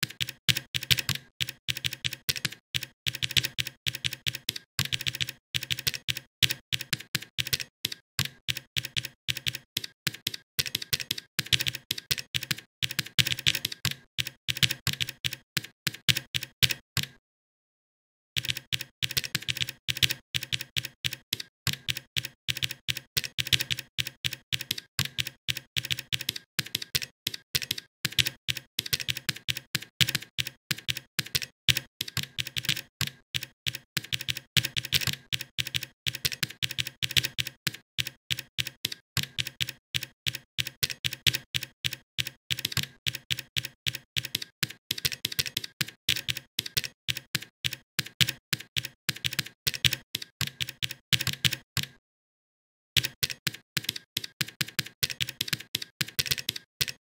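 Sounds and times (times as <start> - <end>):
rapid typing on keyboard: 0.0 - 16.8, 18.4 - 51.9, 53.0 - 57.0.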